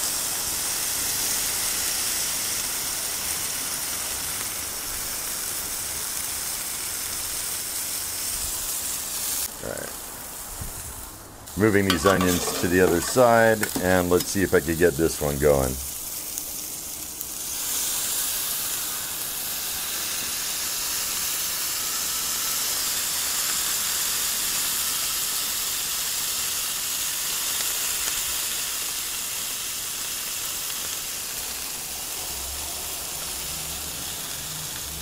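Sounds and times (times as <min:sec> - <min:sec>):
burger patties sizzling on griddle: 0:00.0 - 0:35.0.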